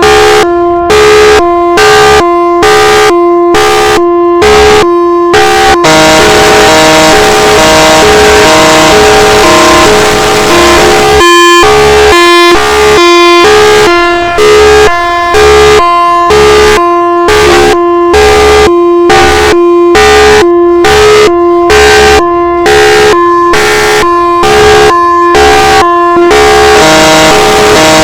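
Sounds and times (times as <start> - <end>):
siren hi-lo signal: 0.0 - 28.0.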